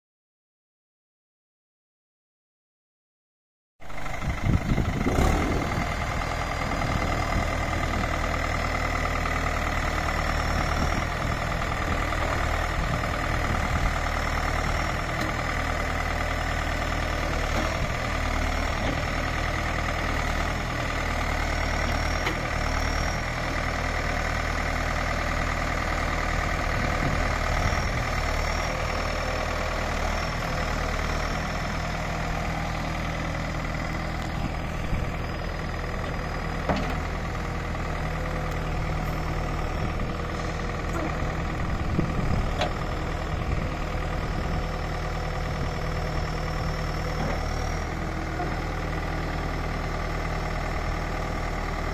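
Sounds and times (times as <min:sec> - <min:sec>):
diesel engine idling: 0:03.8 - 0:51.9.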